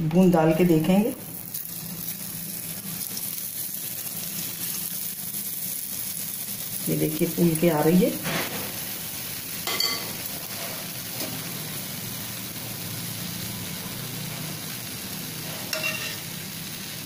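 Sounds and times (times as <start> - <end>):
batter sizzling in hot oil: 0.4 - 17.0.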